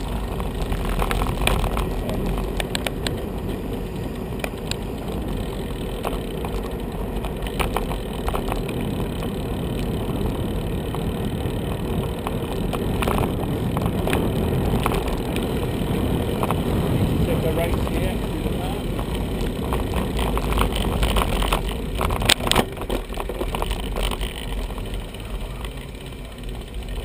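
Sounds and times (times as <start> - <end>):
clicks and rattles: 0.0 - 11.1, 11.8 - 15.6, 17.6 - 27.0
bicycle rumbling on rough road: 0.0 - 27.0.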